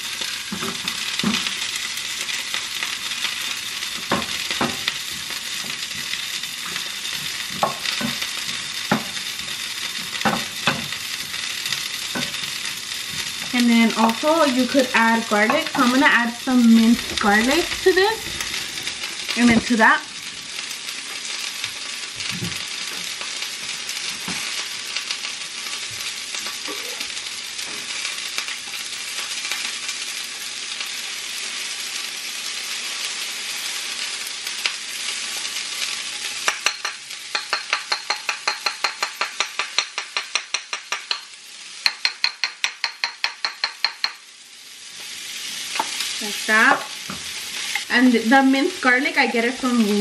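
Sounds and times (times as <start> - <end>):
broccoli sizzling in frying pan: 0.0 - 50.0.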